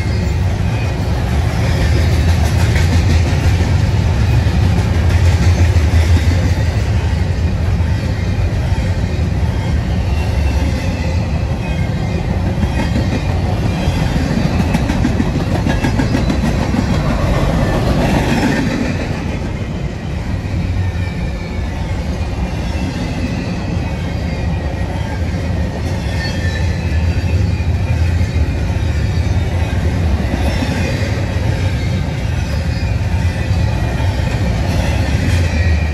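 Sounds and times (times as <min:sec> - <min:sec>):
freight train wheels rumbling on rail: 0:00.0 - 0:35.9.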